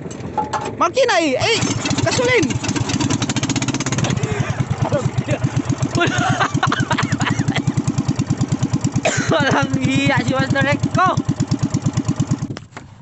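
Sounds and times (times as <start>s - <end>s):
boat engine puttering: 0.0s - 12.7s.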